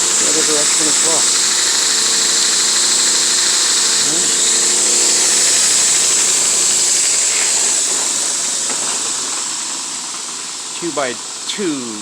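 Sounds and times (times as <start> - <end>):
belt grinder hissing: 0.0 - 12.0.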